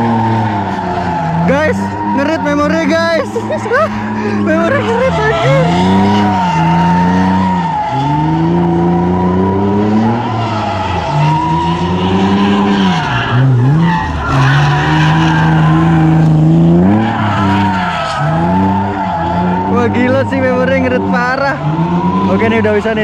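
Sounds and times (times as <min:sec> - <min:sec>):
car engine at high revs: 0:00.0 - 0:23.0
tyres squealing: 0:00.0 - 0:23.0.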